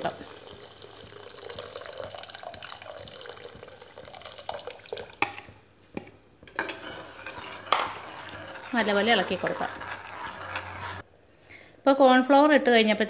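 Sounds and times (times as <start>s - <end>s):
liquid splashing and bubbling in pot: 0.0s - 11.1s.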